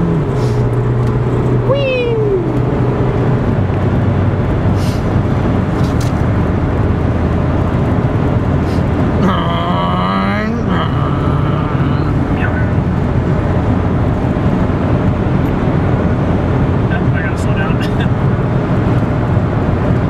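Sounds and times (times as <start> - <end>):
car engine drone: 0.0 - 20.0
road and wind noise: 0.0 - 20.0.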